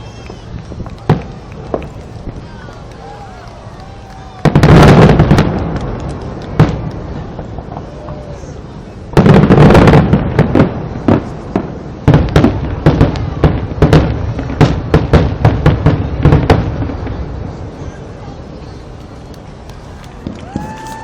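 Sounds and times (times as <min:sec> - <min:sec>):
fireworks bangs and booms: 0:00.0 - 0:21.0.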